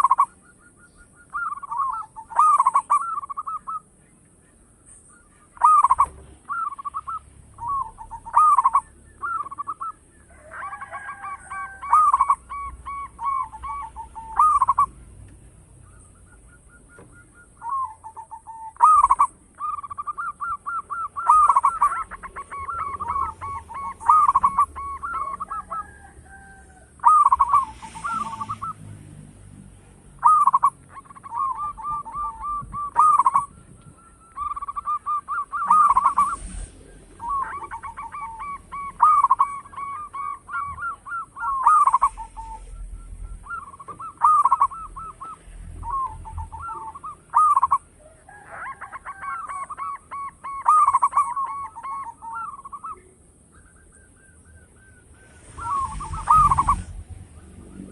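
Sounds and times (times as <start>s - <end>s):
dove cooing: 0.0s - 29.5s, 30.1s - 57.9s.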